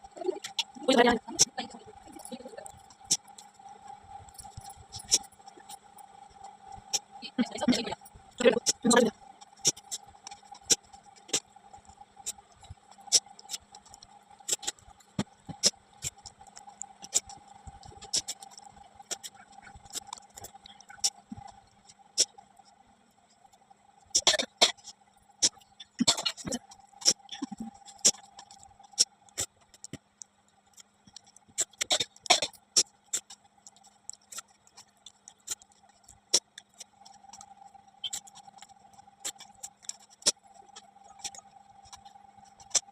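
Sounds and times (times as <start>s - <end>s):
faint steady hum: 0.0s - 42.9s
wet chewing: 0.3s - 22.7s, 24.1s - 42.9s.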